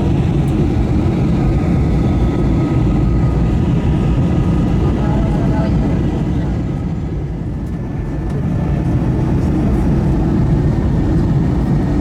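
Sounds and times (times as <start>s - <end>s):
airplane engine rumble: 0.0s - 12.0s.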